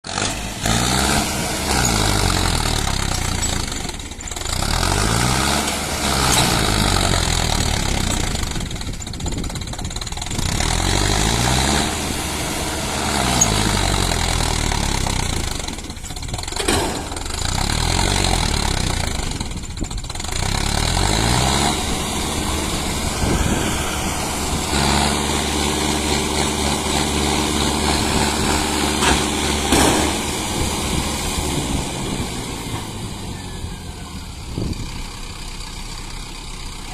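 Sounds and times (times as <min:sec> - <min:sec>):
tractor diesel engine revving: 0:00.0 - 0:36.9.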